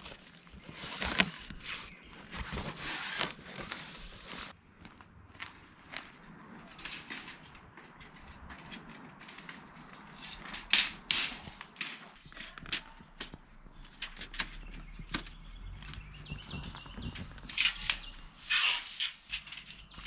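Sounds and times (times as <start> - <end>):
crunching and clicking handling noises: 0.0 - 20.0.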